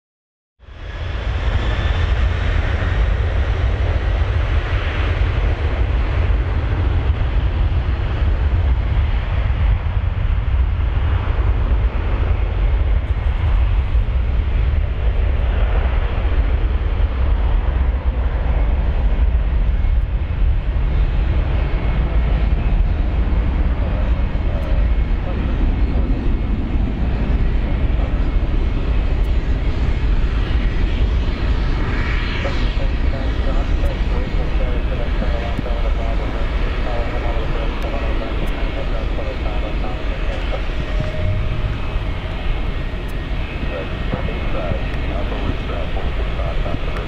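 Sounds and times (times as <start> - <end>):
jet engines rumbling: 0.6 - 47.0.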